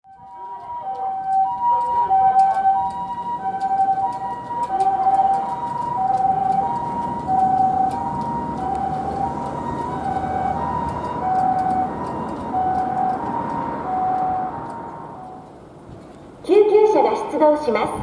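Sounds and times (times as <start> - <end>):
two-tone ambulance siren: 0.0 - 17.7
vehicle low rumble: 0.1 - 17.2.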